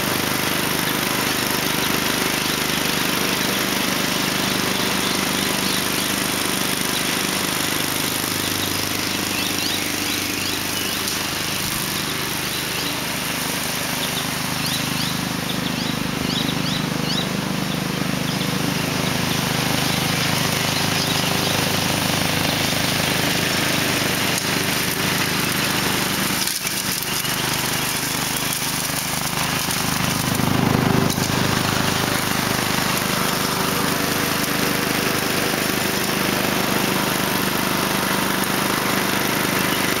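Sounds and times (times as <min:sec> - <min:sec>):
mower engine running: 0:00.0 - 0:40.0.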